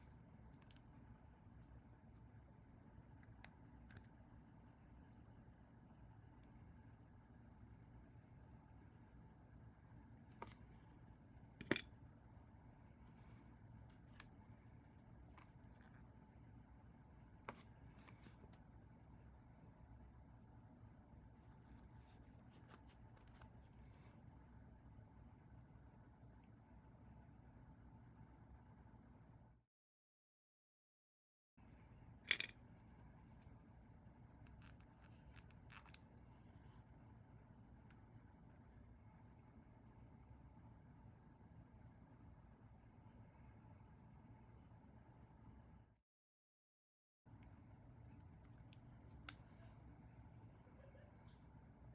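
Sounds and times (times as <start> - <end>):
faint room noise: 0.0 - 29.6, 31.6 - 46.0, 47.3 - 51.9.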